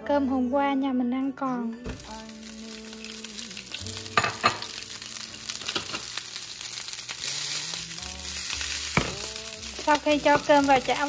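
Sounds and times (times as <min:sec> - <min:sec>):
rice sizzling in a frying pan: 0:02.0 - 0:11.0.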